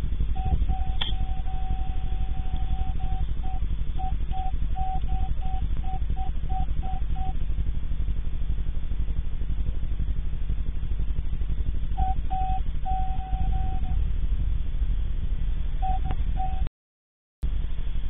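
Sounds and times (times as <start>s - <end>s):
low fluttering hum: 0.0s - 16.7s, 17.4s - 18.0s.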